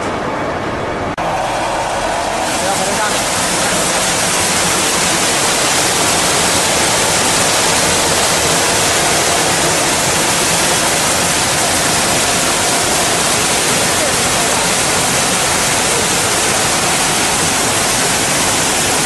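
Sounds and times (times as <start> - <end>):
sorting machine rushing noise: 1.2 - 19.0.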